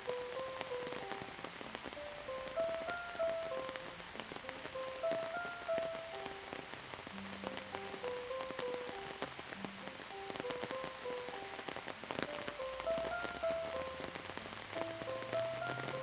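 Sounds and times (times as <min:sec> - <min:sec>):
soft slow melody: 0:00.0 - 0:16.0
steady rain: 0:00.0 - 0:16.0.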